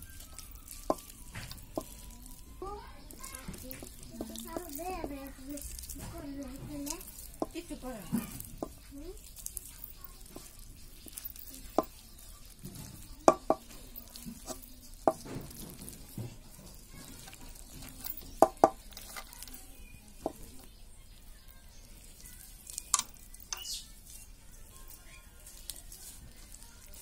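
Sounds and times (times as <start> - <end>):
potatoes squishing by hand: 0.0 - 27.0.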